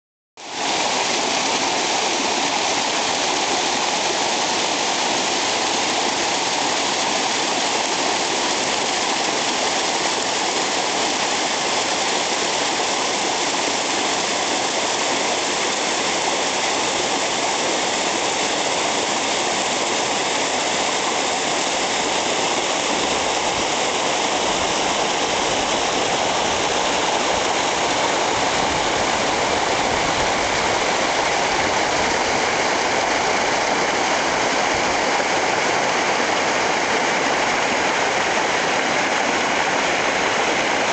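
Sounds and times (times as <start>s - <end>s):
stream rushing over rocks: 0.4s - 40.9s.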